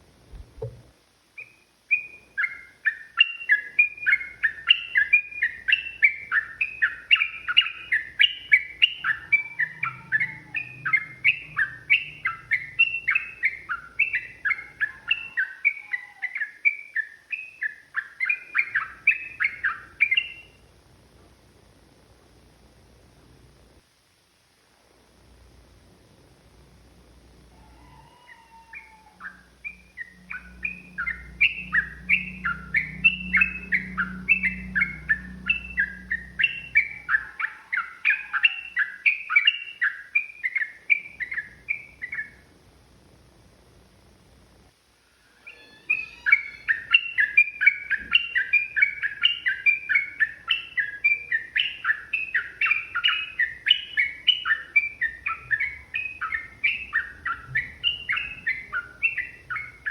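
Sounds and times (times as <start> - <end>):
bird singing bubbly chirps: 1.4 - 20.6, 27.9 - 42.4, 45.5 - 59.9.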